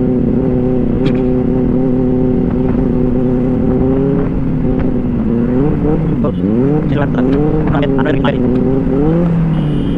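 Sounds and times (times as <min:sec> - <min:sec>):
motorcycle engine cruising: 0:00.0 - 0:09.9.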